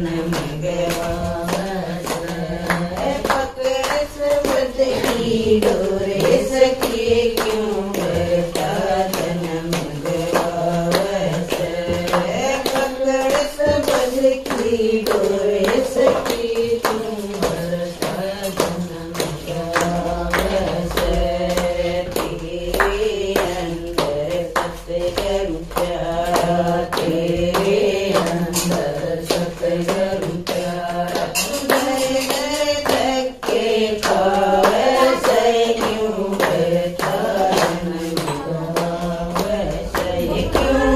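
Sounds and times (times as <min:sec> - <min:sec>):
hand clapping: 0:00.0 - 0:40.9
women singing together: 0:00.0 - 0:40.9.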